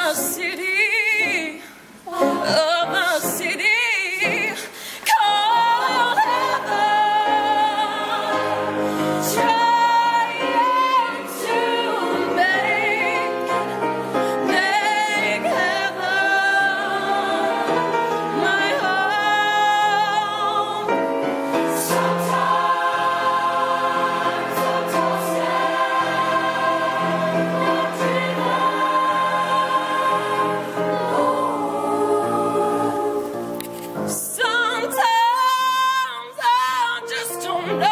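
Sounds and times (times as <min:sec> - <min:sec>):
choir singing: 0:02.0 - 0:35.9.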